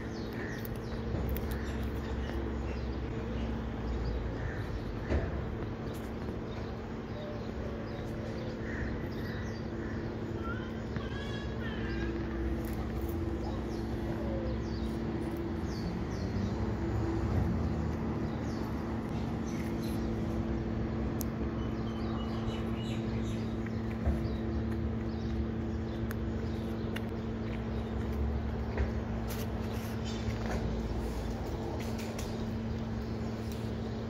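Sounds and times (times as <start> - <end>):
small birds chirping: 0.0 - 34.0
steady low hum: 0.0 - 34.0.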